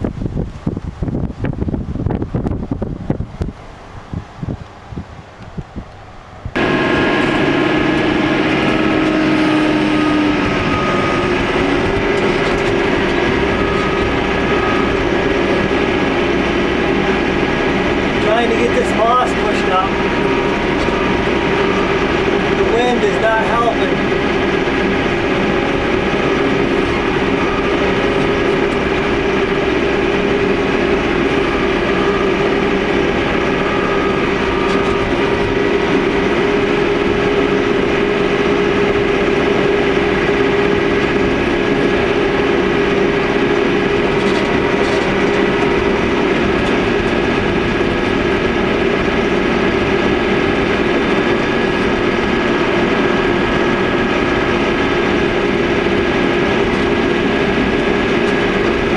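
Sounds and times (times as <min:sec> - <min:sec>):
loader engine drone: 0:00.0 - 0:58.9
steady whining tones: 0:00.0 - 0:58.9.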